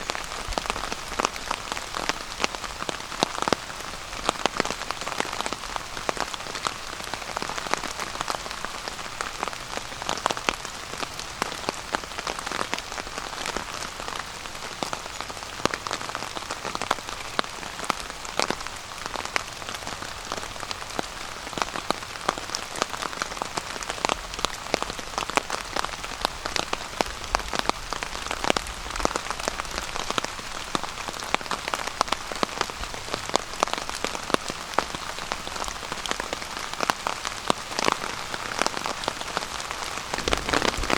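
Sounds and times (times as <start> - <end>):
rain on a tarp: 0.0 - 40.9.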